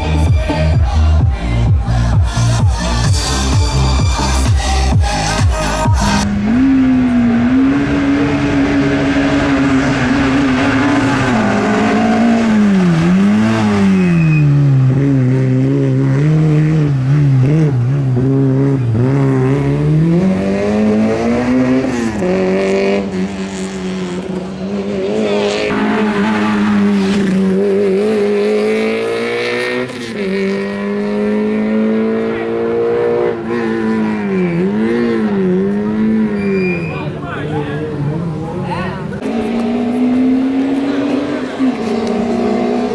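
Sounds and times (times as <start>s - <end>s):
rally car engine at high revs: 0.0s - 42.9s.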